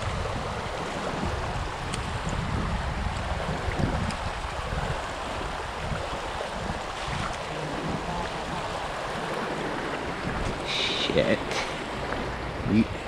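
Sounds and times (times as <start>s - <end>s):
river water rushing: 0.0s - 13.0s
wind buffeting the microphone: 0.0s - 13.0s.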